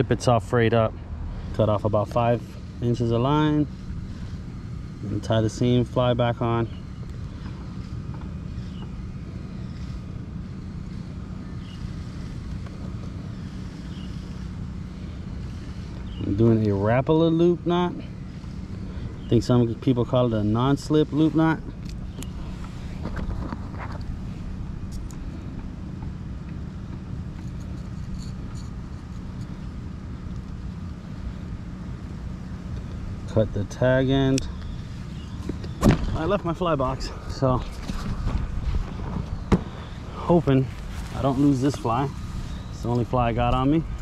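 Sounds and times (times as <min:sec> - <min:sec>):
constant low hum: 0:00.0 - 0:44.0
low outdoor rumble: 0:00.0 - 0:44.0.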